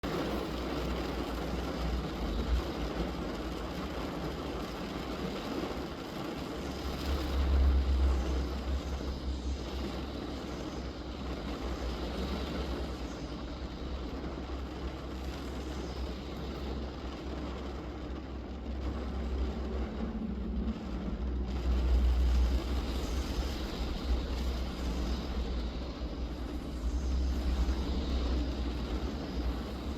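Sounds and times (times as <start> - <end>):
low rumble: 0.0 - 29.9
rain hissing on car roof: 0.0 - 29.9.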